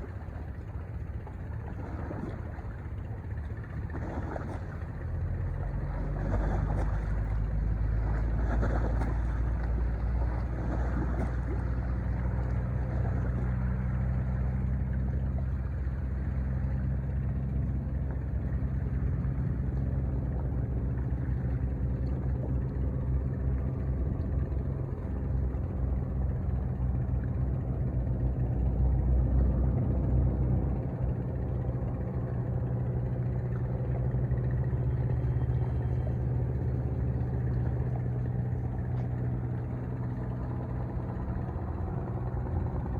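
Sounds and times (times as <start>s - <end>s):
ship engine droning: 0.0s - 42.9s.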